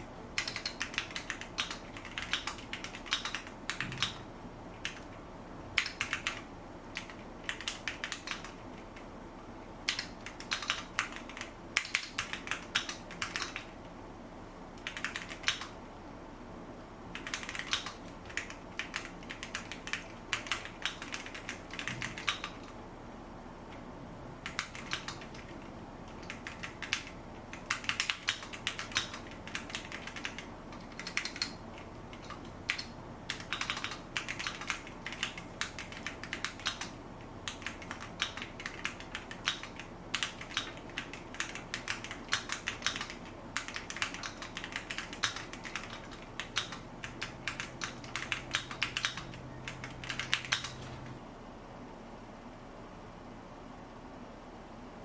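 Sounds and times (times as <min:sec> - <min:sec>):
mechanical keyboard typing: 0:00.3 - 0:05.2, 0:05.8 - 0:09.1, 0:09.8 - 0:13.8, 0:14.8 - 0:15.8, 0:17.1 - 0:22.8, 0:24.4 - 0:51.0.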